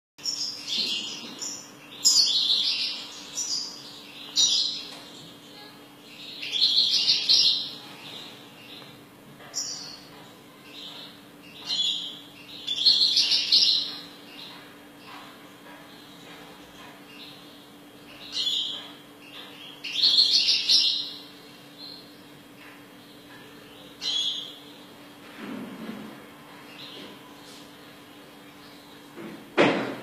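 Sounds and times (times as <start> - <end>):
bird twittering song: 0.2 - 24.9.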